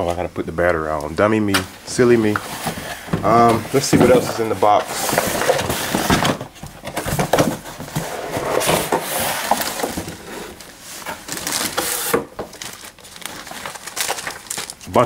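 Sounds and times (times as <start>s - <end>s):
cardboard scraping: 2.0s - 14.5s
paper rustling: 2.0s - 15.0s.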